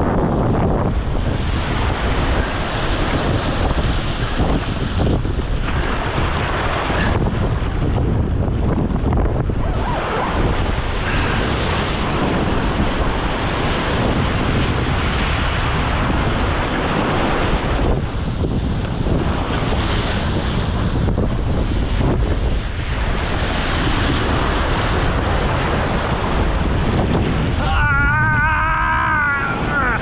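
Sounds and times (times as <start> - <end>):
ocean waves: 0.0 - 30.0
wind buffeting microphone: 0.0 - 30.0.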